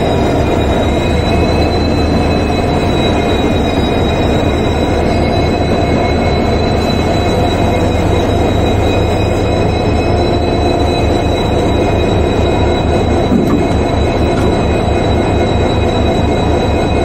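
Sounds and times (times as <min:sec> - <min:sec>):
high whine: 0:00.0 - 0:17.0
locomotive diesel engine rumbling: 0:00.0 - 0:17.0.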